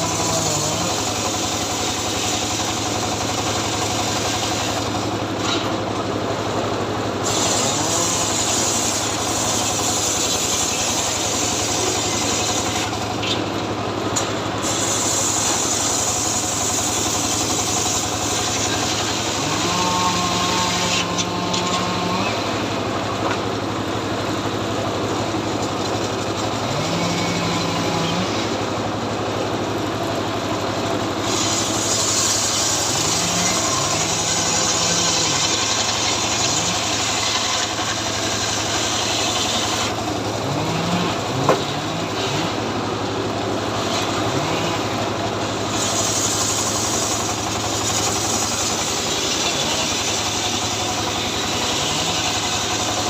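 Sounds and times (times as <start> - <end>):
chainsaw engine idling: 0.0 - 53.0.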